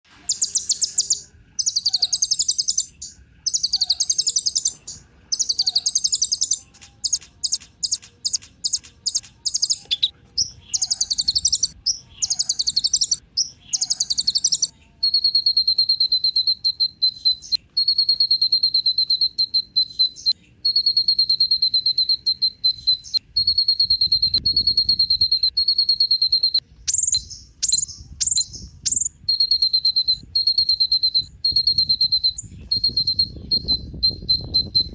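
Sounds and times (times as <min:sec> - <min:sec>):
bird twittering: 0:00.1 - 0:34.9
sharp chirps: 0:00.1 - 0:34.9.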